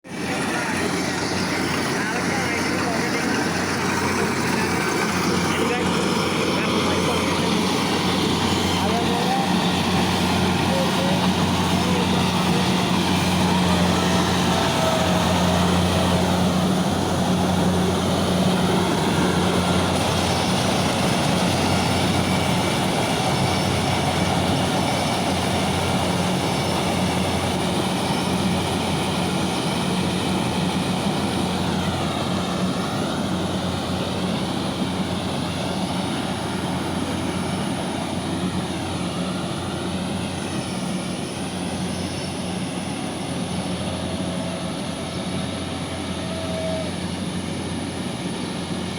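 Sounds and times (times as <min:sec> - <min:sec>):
combine harvester diesel engine drone: 0:00.0 - 0:48.9
threshing machinery whirr: 0:00.1 - 0:48.9.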